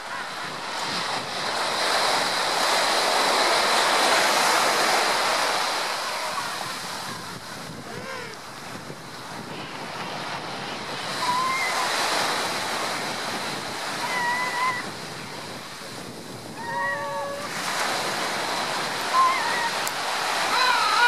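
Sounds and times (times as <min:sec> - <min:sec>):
sea water splashing: 0:00.0 - 0:21.0
wind on microphone: 0:00.0 - 0:21.0.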